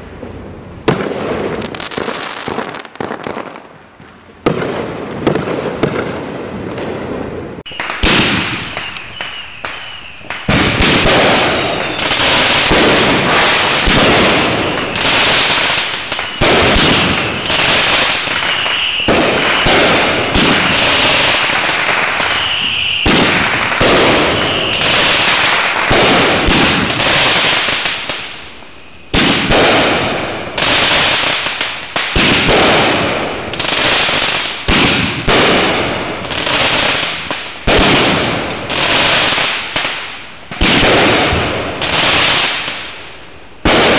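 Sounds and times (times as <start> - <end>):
crackling fireworks: 0.0 - 43.9
firework tubes launching: 0.8 - 28.4, 29.1 - 43.0.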